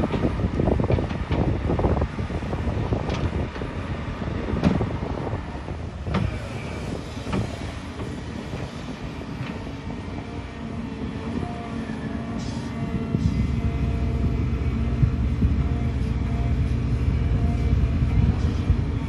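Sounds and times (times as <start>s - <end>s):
dump truck engine running: 0.0s - 19.0s
excavator diesel engine running: 0.0s - 19.0s.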